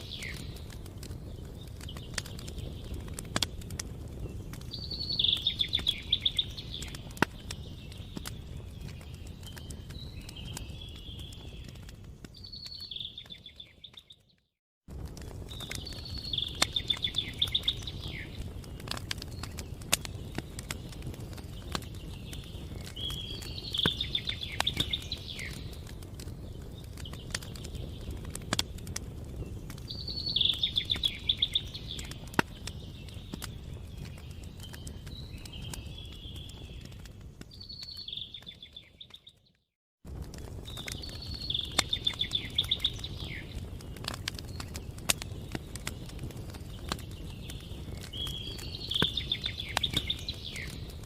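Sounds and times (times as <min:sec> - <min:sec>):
songbird singing: 0:00.0 - 0:14.5, 0:15.2 - 0:39.6, 0:40.5 - 0:51.0
campfire crackling and popping: 0:00.0 - 0:51.0.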